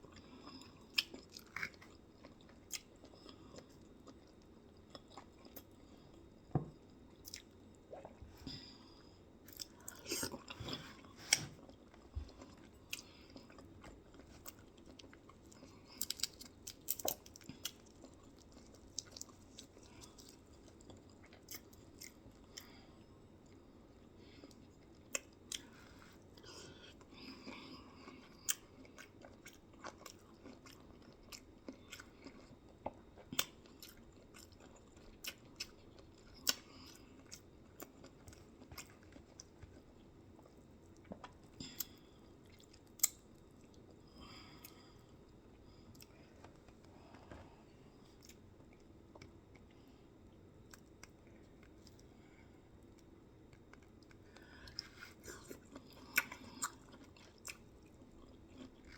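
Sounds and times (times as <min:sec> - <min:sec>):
soft wet chewing: 0:00.0 - 0:58.9.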